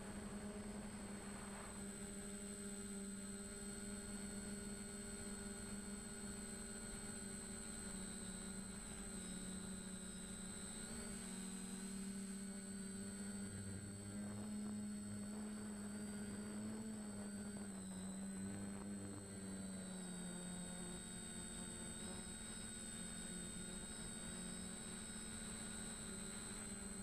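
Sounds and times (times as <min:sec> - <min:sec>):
constant high whine: 0:00.0 - 0:27.0.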